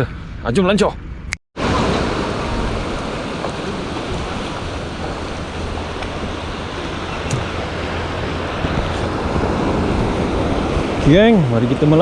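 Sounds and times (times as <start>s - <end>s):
wind rumbling on microphone: 0.0s - 12.0s
surf breaking on beach: 1.6s - 12.0s.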